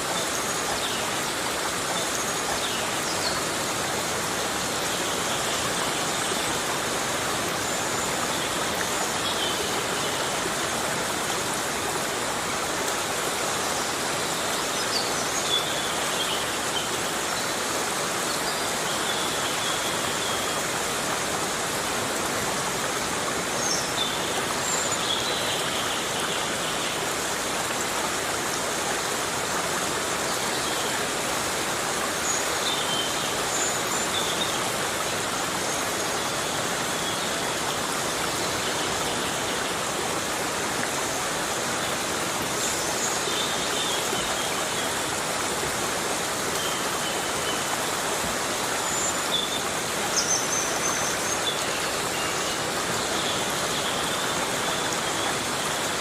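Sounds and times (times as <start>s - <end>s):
heavy rain on forest: 0.0s - 56.0s.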